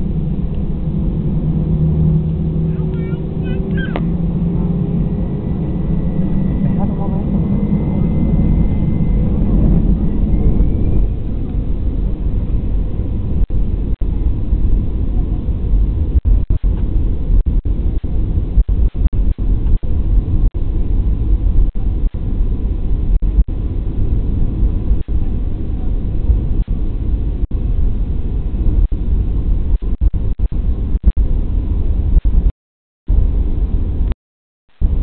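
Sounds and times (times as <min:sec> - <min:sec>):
jet engines rumbling: 0:00.0 - 0:32.5.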